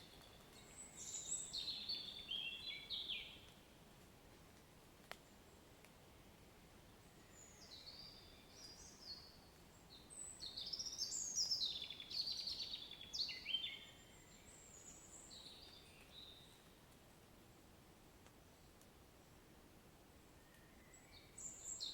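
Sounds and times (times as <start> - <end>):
faint steady hiss: 0.0 - 21.9.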